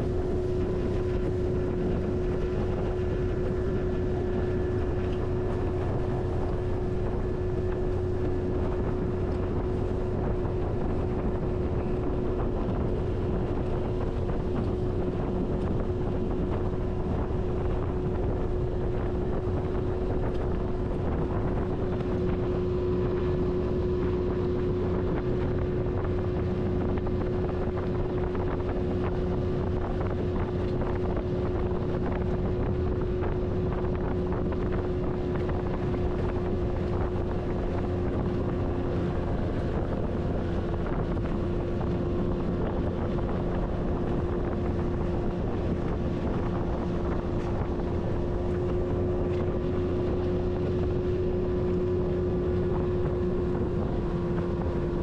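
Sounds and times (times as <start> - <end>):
outboard motor running: 0.0 - 55.0
wind buffeting microphone: 0.0 - 55.0.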